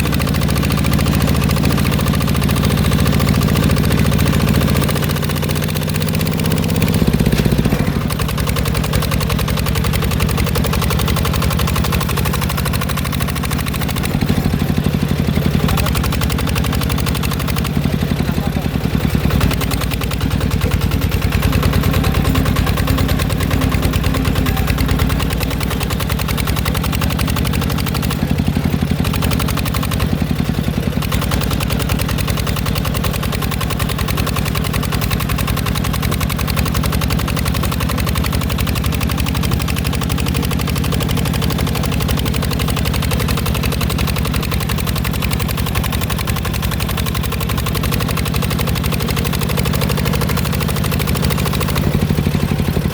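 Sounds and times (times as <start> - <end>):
small tractor engine running: 0.0 - 52.9.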